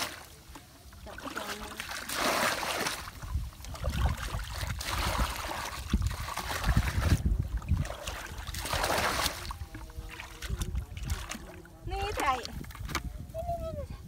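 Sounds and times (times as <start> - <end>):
muddy water sloshing and splashing: 0.0 - 13.6.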